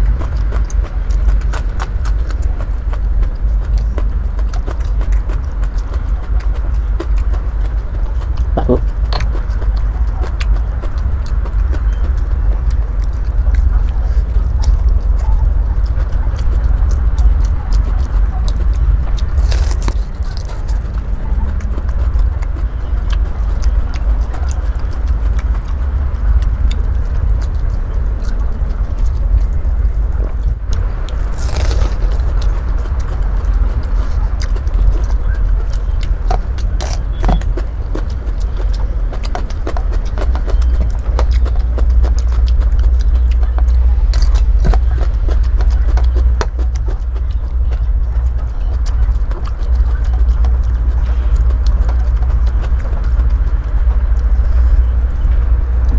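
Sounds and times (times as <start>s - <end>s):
crisp chewing crunches: 0.0s - 55.9s
low rumble: 0.0s - 55.9s.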